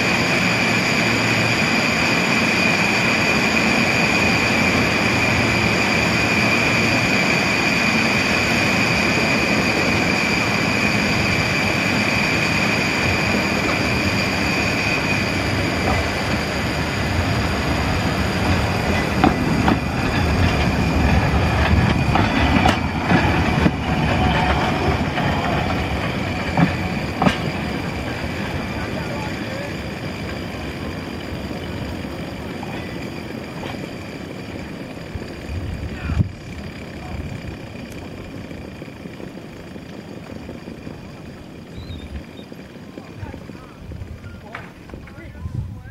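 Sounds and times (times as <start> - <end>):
tramcar rumble on rails: 0.0 - 45.9
tramcar whine: 0.0 - 45.9.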